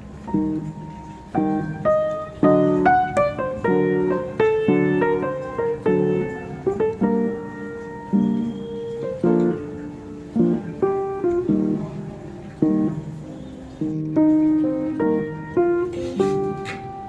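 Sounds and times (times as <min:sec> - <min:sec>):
simple instrumental melody: 0:00.0 - 0:17.0.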